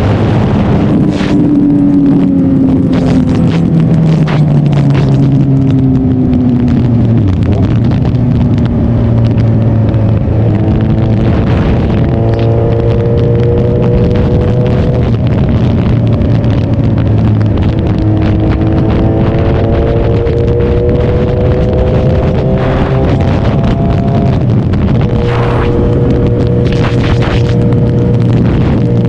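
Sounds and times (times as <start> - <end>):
motorcycle engine running: 0.0 - 29.0
wind rushing: 0.0 - 29.0.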